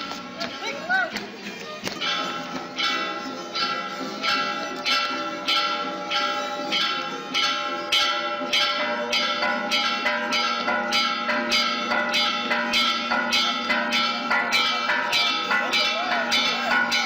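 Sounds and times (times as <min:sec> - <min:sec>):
church bells ringing: 0:00.0 - 0:01.2, 0:01.8 - 0:17.0.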